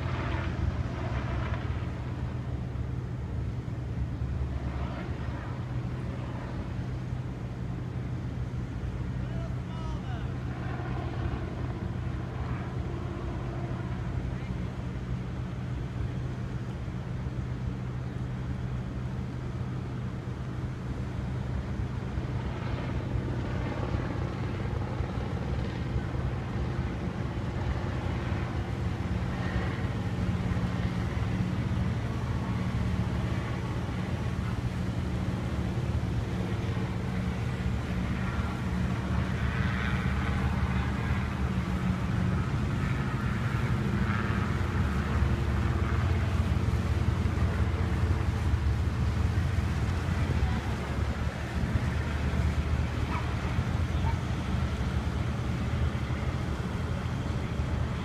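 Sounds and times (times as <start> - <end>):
boat engines droning: 0.0 - 58.0.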